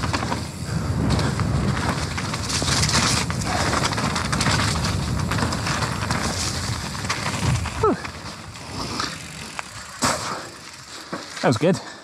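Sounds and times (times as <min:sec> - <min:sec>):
bike tyres rumbling over rough ground: 0:00.0 - 0:12.0.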